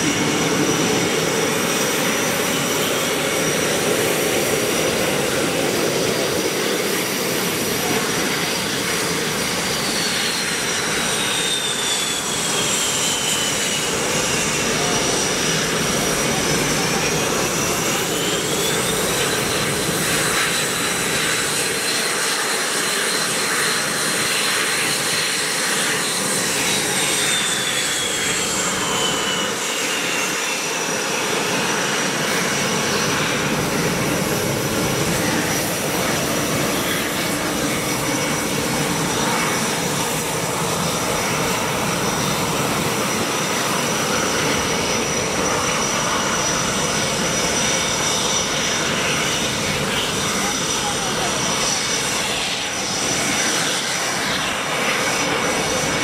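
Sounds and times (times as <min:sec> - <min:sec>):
high jet whine: 0:00.0 - 0:56.0
jet engines roaring: 0:00.0 - 0:56.0.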